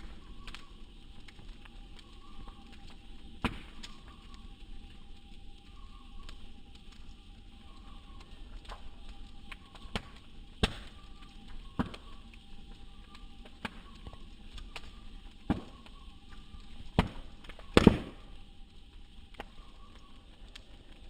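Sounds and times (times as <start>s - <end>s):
burning wood popping: 0.0s - 21.0s
soft steady fire hiss: 0.0s - 21.0s.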